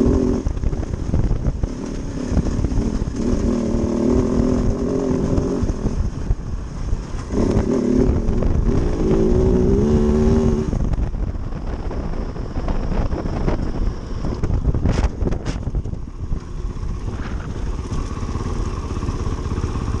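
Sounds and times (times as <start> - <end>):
motorcycle engine revving: 0.0 - 20.0
steady low rumble: 0.0 - 20.0.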